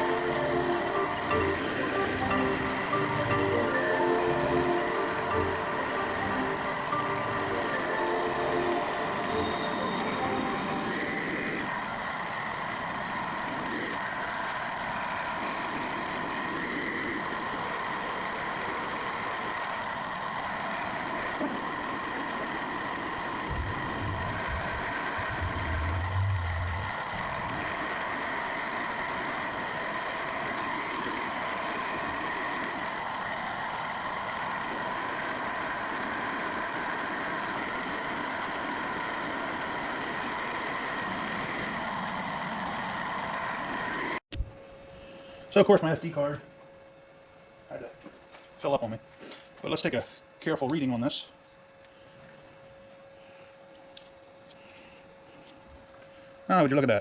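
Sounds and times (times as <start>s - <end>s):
machine tool humming and whining: 0.0s - 49.1s.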